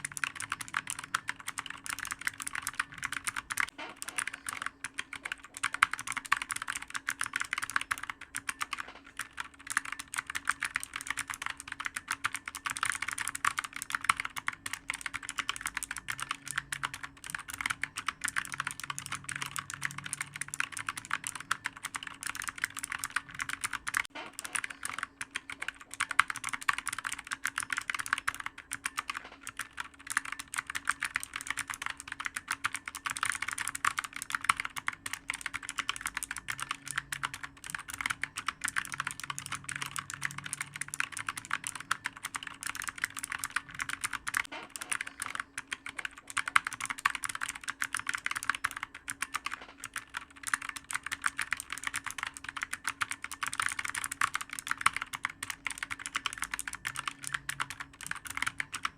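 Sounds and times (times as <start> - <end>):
faint steady hum: 0.0 - 58.9
fast typing on clicky keyboard: 0.0 - 58.9.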